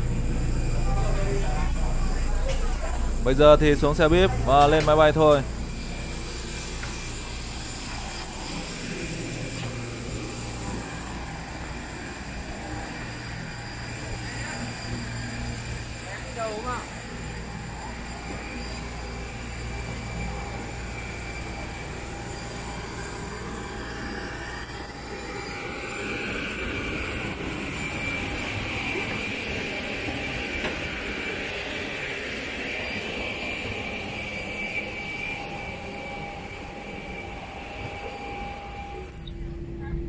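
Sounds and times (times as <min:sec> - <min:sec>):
jet aircraft engine whine and rumble: 0:00.0 - 0:40.0.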